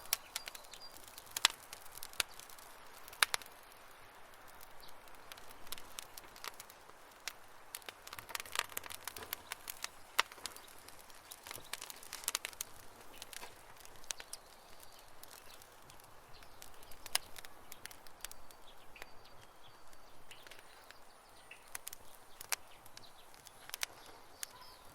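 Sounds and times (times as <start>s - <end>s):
campfire crackling: 0.0s - 24.9s
faint fire hiss: 0.0s - 24.9s
sharp pops and snaps: 0.0s - 24.9s.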